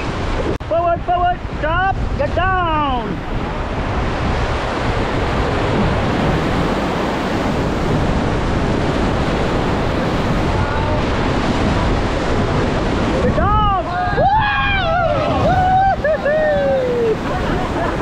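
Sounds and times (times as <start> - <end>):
wind buffeting microphone: 0.0 - 18.0
whitewater rapids rushing: 2.3 - 18.0.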